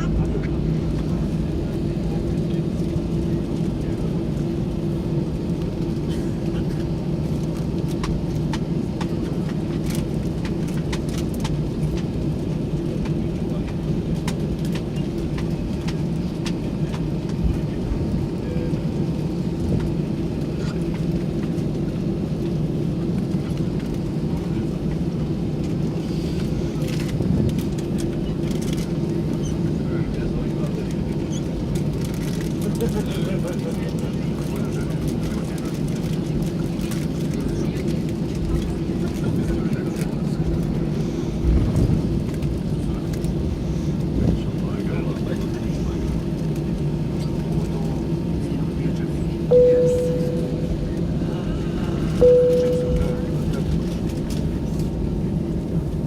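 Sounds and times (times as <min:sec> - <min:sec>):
airplane engine and airflow drone: 0:00.0 - 0:56.0.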